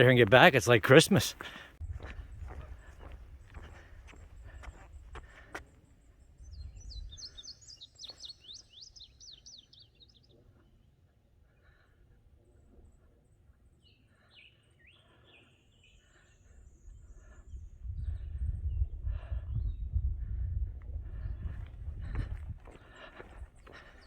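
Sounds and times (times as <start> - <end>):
songbird chirping: 0.0 - 11.8, 12.4 - 17.9, 21.4 - 24.0.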